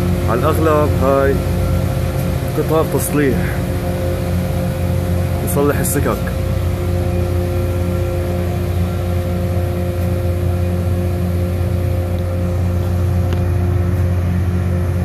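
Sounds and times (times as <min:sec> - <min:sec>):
rail grinding train drone: 0:00.0 - 0:15.0.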